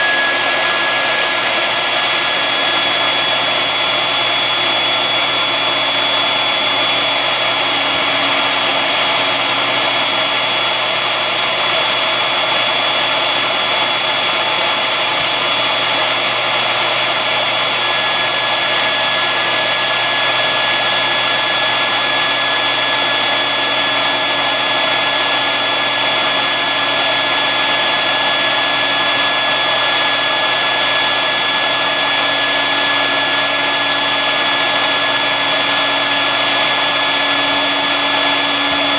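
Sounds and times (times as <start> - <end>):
blower fan airy rush: 0.0 - 38.9
lower whine: 0.0 - 38.9.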